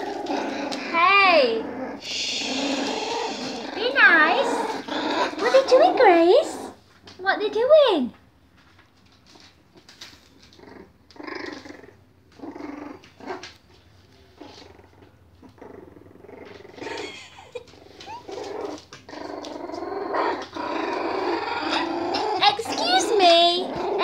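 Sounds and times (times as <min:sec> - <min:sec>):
puppies growling: 0:00.0 - 0:07.8, 0:09.2 - 0:24.0.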